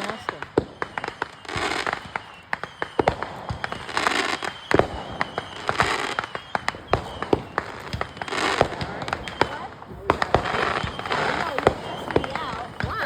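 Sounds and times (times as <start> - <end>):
fireworks hissing and crackling: 0.0 - 13.0
fireworks popping and banging: 0.0 - 13.0.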